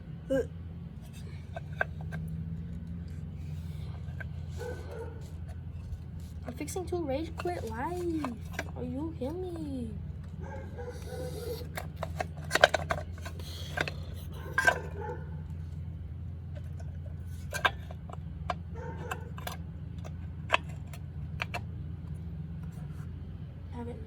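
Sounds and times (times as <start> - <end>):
metal tools clinking: 1.0 - 15.6, 16.6 - 21.6.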